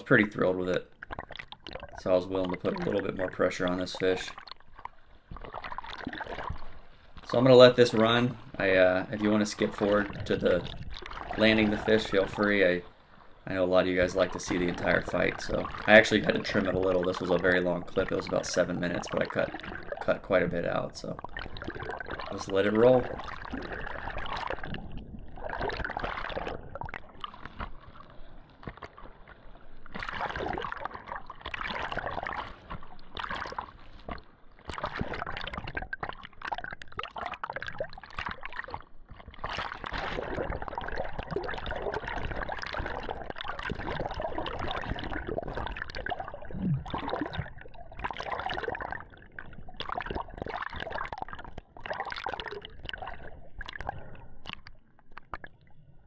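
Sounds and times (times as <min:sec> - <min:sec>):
water sloshing and gurgling: 0:00.0 - 0:56.0.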